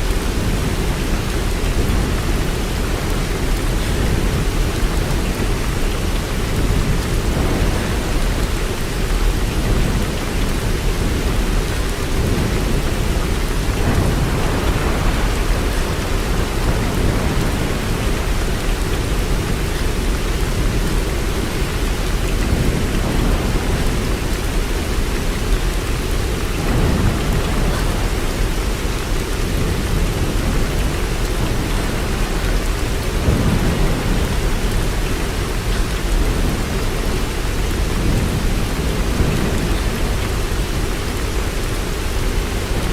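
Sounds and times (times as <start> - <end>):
heavy rain hiss: 0.0 - 42.9.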